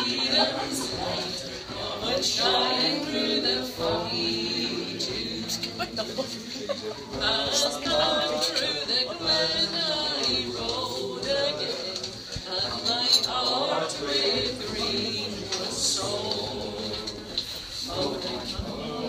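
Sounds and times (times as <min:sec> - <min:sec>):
group singing a folk song: 0:00.0 - 0:19.0.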